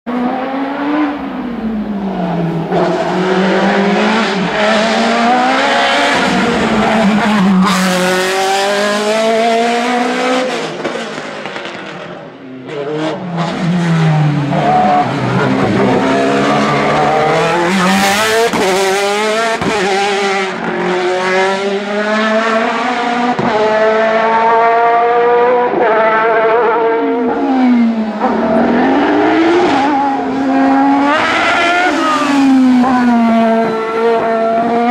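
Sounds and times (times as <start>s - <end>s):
racing car engine revving: 0.1s - 34.9s.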